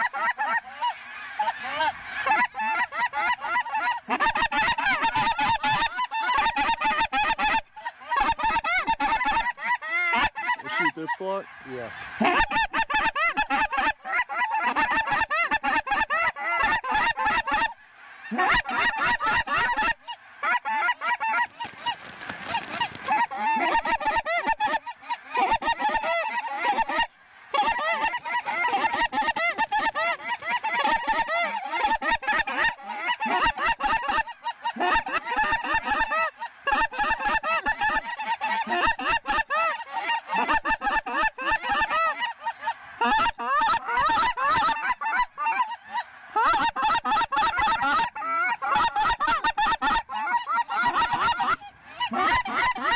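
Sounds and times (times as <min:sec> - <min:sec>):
flock of geese honking: 0:00.0 - 0:52.9.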